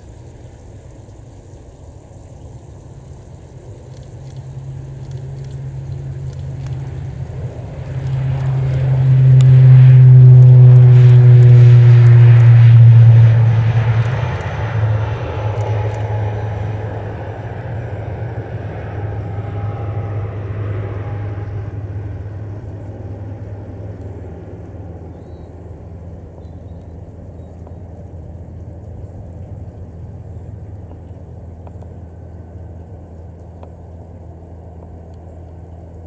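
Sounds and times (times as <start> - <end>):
turboprop airliner taking off: 0.0 - 36.0.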